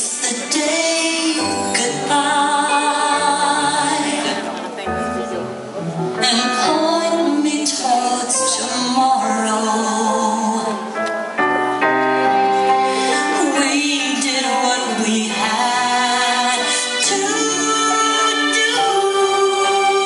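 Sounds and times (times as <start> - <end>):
woman singing into microphone: 0.0 - 4.8, 6.2 - 11.0, 12.8 - 20.0
backing music: 0.0 - 20.0.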